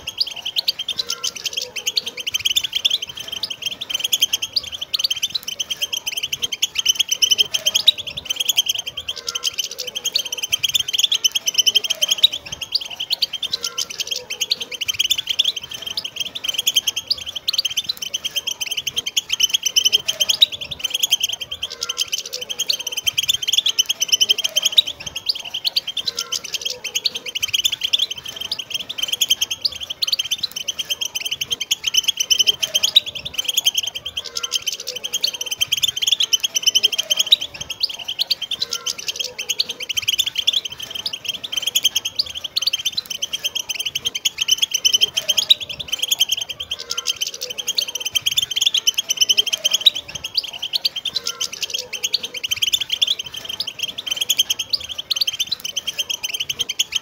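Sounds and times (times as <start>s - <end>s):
flock of finches twittering: 0.0s - 57.0s.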